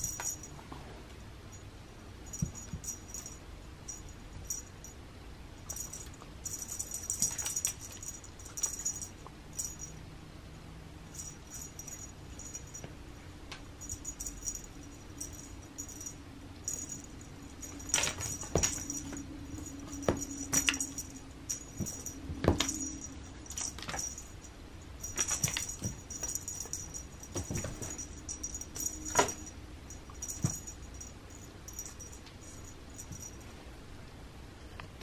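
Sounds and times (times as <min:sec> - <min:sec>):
faint toy jingling: 0:00.0 - 0:00.6, 0:01.5 - 0:05.0, 0:05.6 - 0:10.0, 0:11.0 - 0:12.9, 0:13.8 - 0:33.5.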